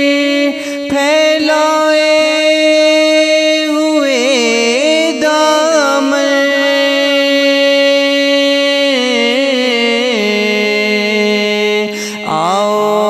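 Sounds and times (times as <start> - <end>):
man singing long held notes: 0.0 - 13.0.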